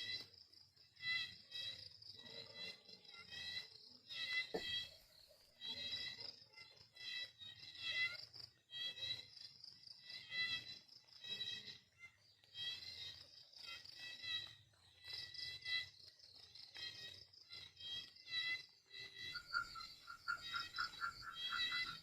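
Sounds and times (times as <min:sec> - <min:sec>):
high chirping animal calls: 0:00.0 - 0:22.0.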